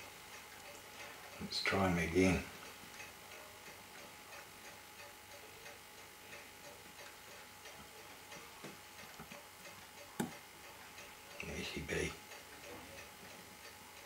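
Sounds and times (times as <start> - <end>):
watch ticking: 0.0 - 14.0.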